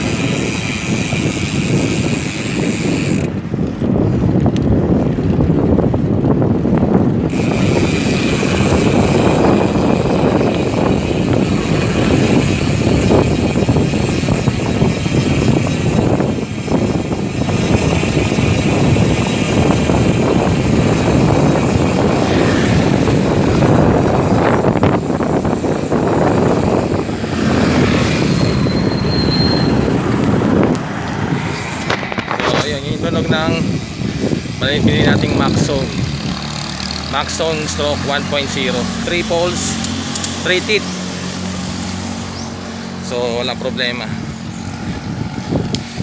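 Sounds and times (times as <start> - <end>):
freehub ratchet buzzing: 0.0 - 3.8, 5.6 - 46.0
wind rumble on microphone: 0.0 - 46.0.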